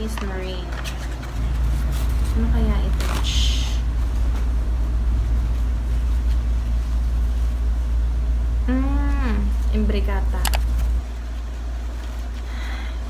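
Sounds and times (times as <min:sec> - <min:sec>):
loud low hum: 0:00.0 - 0:13.0.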